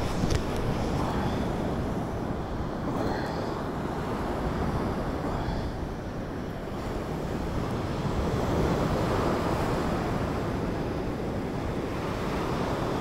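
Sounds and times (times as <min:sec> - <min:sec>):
sea waves washing on shore: 0:00.0 - 0:13.0
wind buffeting microphone: 0:00.0 - 0:13.0.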